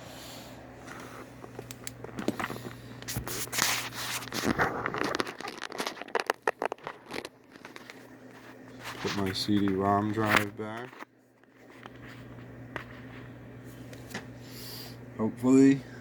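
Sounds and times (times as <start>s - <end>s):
low steady hum: 0.0s - 16.0s
rustling and scraping: 0.8s - 14.4s.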